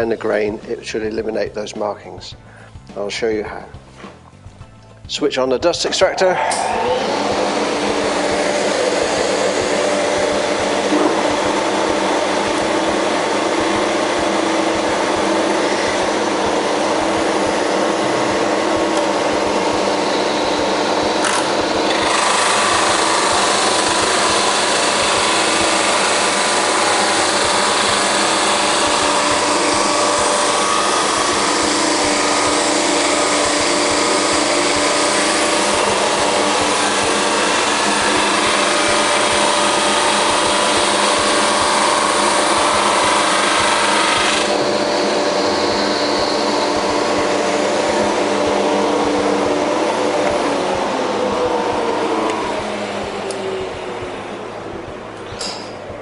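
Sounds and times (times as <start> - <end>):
drum sander humming: 0.0 - 56.0.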